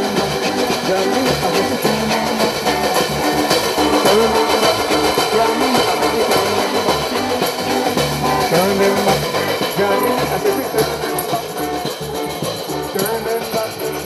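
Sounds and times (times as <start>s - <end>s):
electric bass line: 0.0s - 14.0s
electric guitars: 0.0s - 14.0s
live band playing: 0.0s - 14.0s.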